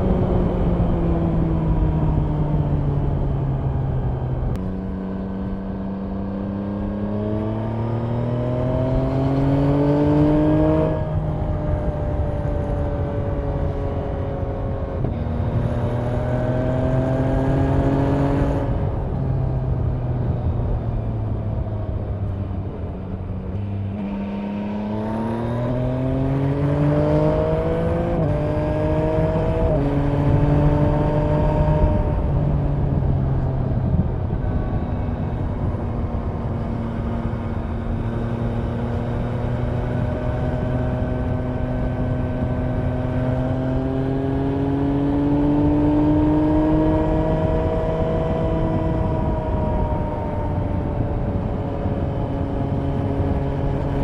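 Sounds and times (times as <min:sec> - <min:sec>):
motorcycle engine accelerating: 0:00.0 - 0:54.0
wind noise: 0:00.0 - 0:54.0.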